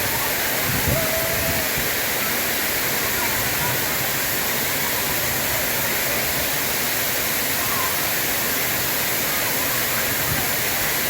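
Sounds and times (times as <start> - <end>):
waterfall pouring and splashing: 0.0 - 11.0.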